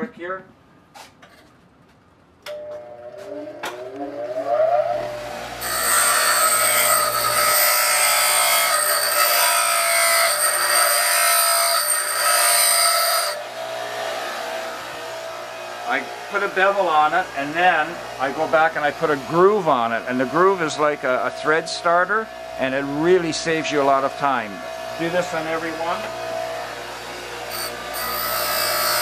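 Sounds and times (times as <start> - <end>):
bench grinder motor whine: 2.5 - 23.0, 24.0 - 29.0.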